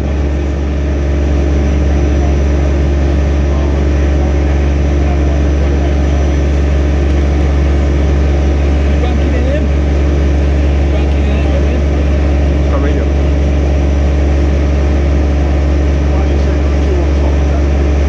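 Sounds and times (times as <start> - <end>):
heavy machinery engine droning: 0.0 - 18.0.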